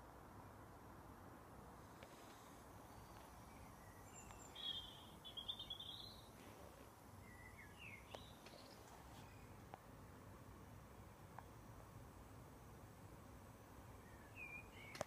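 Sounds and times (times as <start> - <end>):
faint outdoor background noise: 0.0 - 15.0
songbird singing: 2.0 - 10.0, 10.8 - 15.0.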